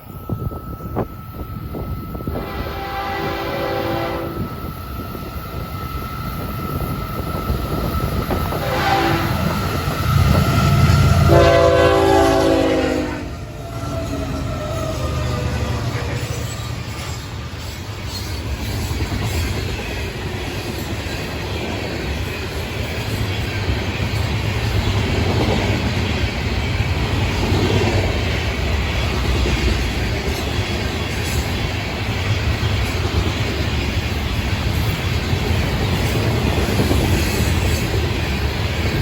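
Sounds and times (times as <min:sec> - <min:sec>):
locomotive rumble: 0:00.0 - 0:39.0
rail cars rolling over track: 0:00.0 - 0:39.0.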